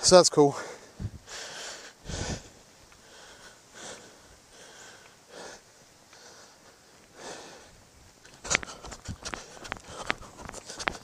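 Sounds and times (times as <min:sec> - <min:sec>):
man breathing hard: 0:00.5 - 0:07.8, 0:08.4 - 0:11.0.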